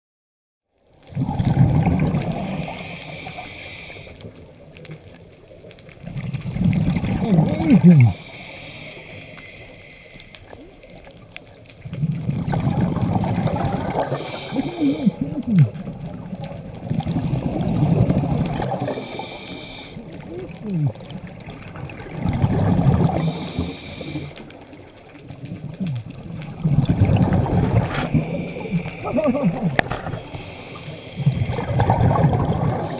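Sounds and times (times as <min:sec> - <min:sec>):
underwater bubbles: 0:00.8 - 0:32.9
underwater rumble of water: 0:00.8 - 0:32.9.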